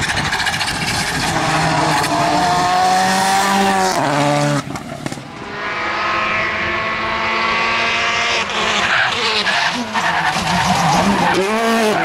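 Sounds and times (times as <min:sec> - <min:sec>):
rally car engines at full throttle: 0:00.0 - 0:12.0.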